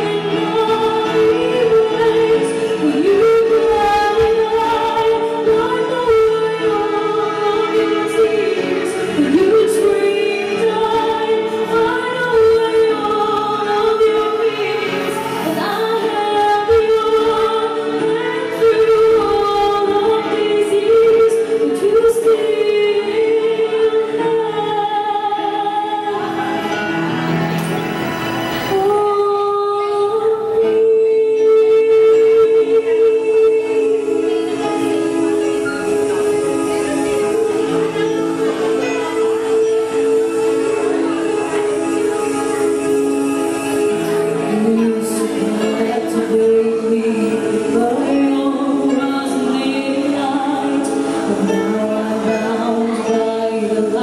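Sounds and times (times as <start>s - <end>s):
woman singing into microphone: 0.0s - 28.0s, 28.6s - 54.0s.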